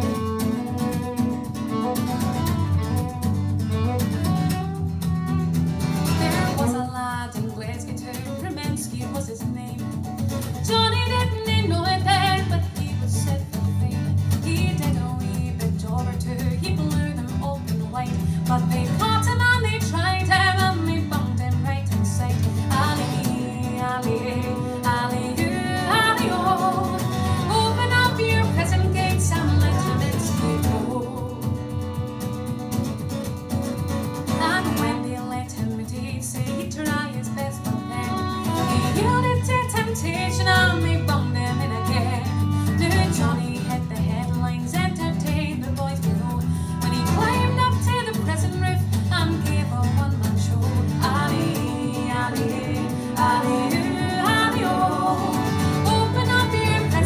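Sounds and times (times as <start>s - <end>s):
fiddle: 0.0s - 9.0s, 9.9s - 57.0s
strummed acoustic guitar: 0.0s - 57.0s
woman singing: 6.0s - 32.1s, 34.3s - 57.0s.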